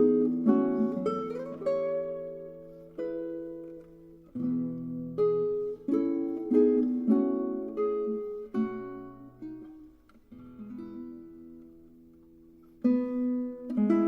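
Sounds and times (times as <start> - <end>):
plucked string instrument music: 0.0 - 14.0.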